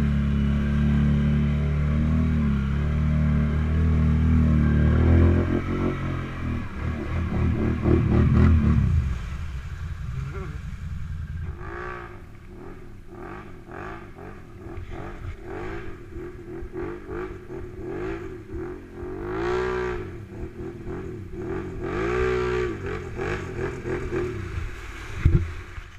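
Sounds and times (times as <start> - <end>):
atv engines idling and revving: 0.0 - 25.5.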